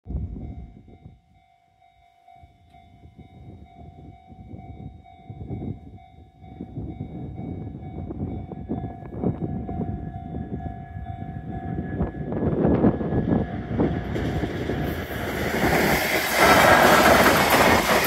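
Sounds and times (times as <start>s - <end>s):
crossing warning bell ringing: 0.1s - 18.0s
freight train rumbling on rails: 0.1s - 18.0s.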